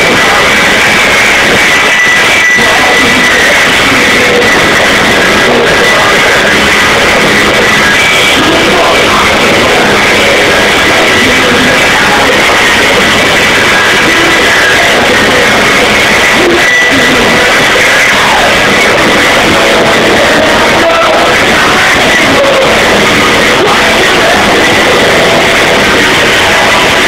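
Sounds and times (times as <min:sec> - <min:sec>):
distorted live rock band: 0:00.0 - 0:27.0.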